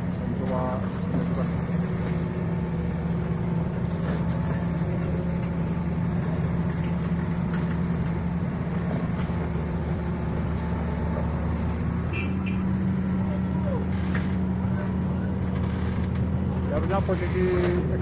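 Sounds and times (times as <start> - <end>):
heavy diesel engine humming: 0.0 - 18.0.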